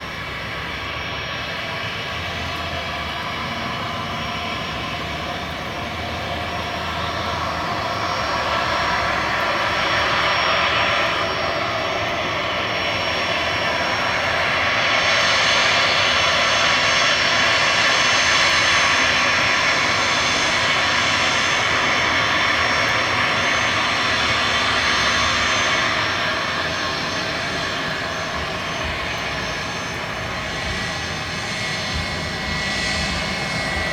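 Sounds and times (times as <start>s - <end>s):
jet engines whining: 0.0s - 33.9s.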